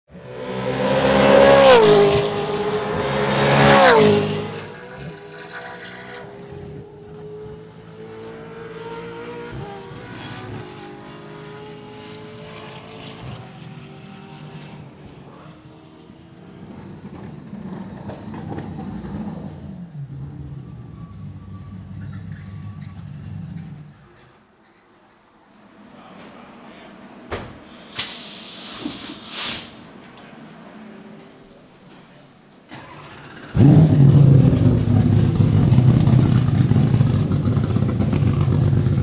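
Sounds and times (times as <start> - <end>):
distant race cars: 0.1 - 28.0, 29.8 - 39.0.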